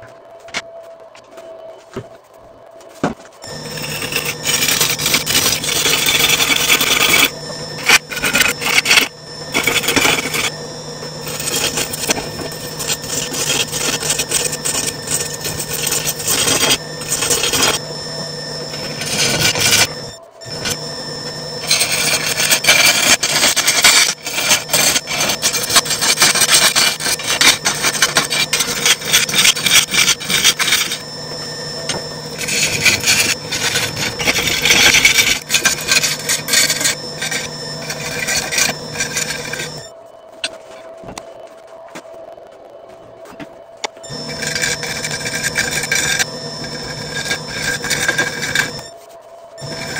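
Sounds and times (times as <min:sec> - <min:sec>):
gouge scraping spinning wood: 0:03.4 - 0:40.0, 0:44.0 - 0:49.0, 0:49.6 - 0:49.9
lathe humming: 0:03.4 - 0:40.0, 0:43.8 - 0:49.9.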